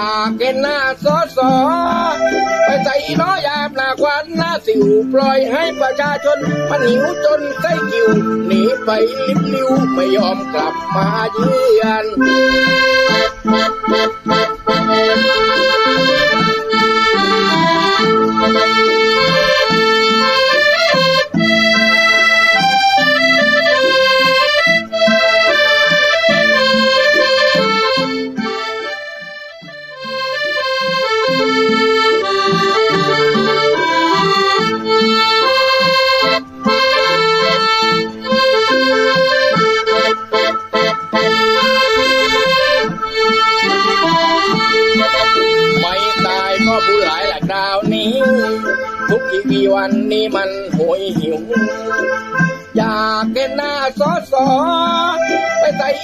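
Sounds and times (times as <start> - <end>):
accordion melody: 0.0 - 56.0.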